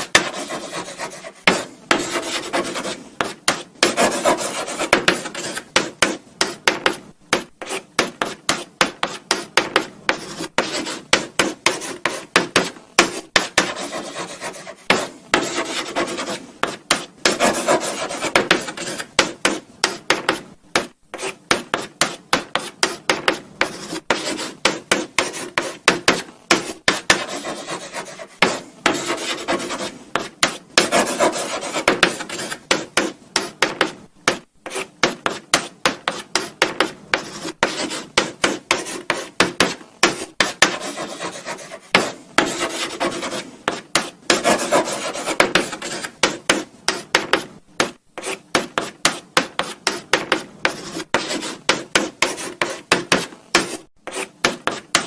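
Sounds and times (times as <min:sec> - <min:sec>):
chalk scratching on a blackboard: 0:00.0 - 0:34.0, 0:34.6 - 0:55.0.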